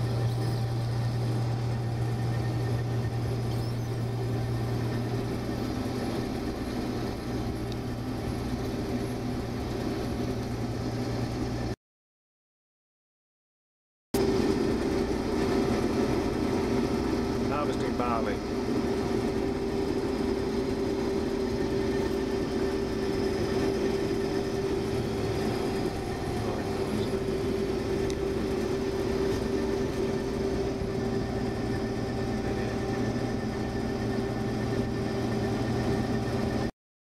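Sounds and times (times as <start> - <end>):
combine harvester engine drone: 0.0 - 11.8, 14.2 - 36.7.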